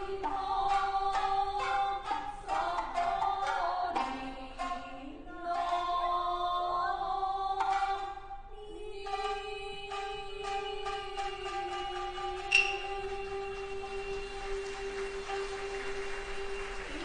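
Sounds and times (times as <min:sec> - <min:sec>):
person singing in bending notes: 0:00.0 - 0:17.0
plucked shamisen: 0:00.0 - 0:17.0.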